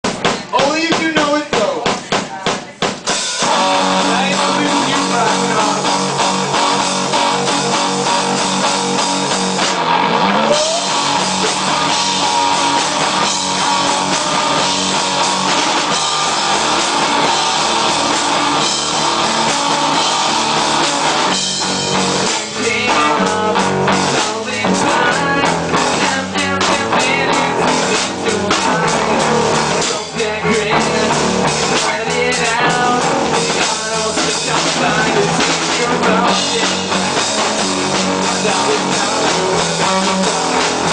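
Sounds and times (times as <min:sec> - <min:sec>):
loud rock music: 0:00.0 - 0:40.9.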